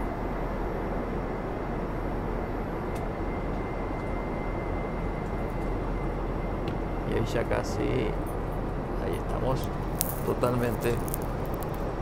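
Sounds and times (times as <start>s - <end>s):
aircraft cabin roar: 0.0s - 12.0s.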